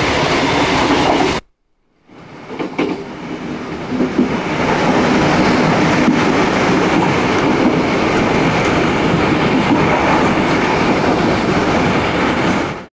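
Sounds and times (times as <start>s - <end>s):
train wheels rumbling on track: 0.0s - 1.4s, 2.1s - 12.9s.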